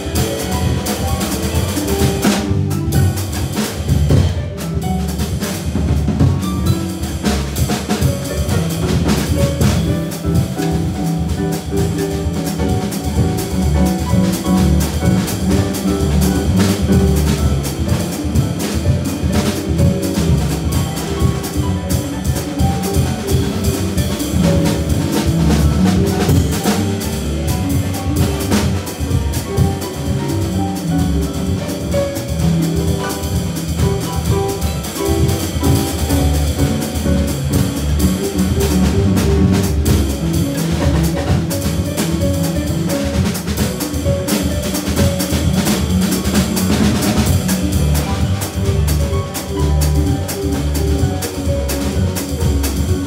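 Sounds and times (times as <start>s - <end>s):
drum kit strokes: 0.0s - 53.0s
plucked double bass: 0.0s - 53.0s
harp playing: 8.3s - 45.0s, 47.1s - 53.0s.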